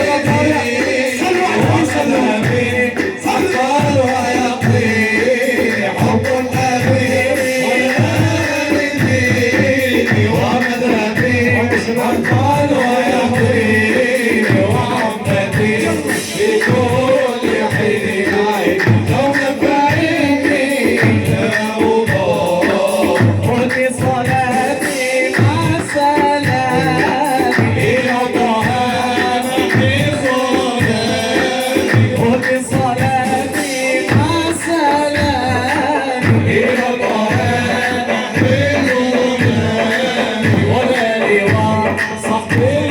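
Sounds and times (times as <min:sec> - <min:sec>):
men chanting: 0:00.0 - 0:42.9
steady drum beat: 0:00.0 - 0:42.9.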